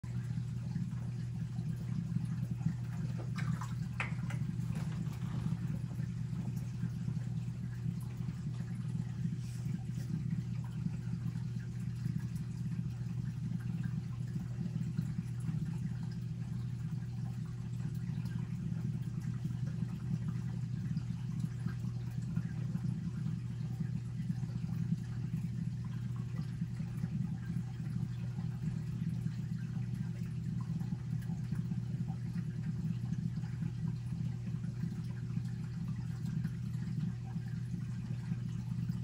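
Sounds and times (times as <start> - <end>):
aquarium pumps humming: 0.0 - 39.0.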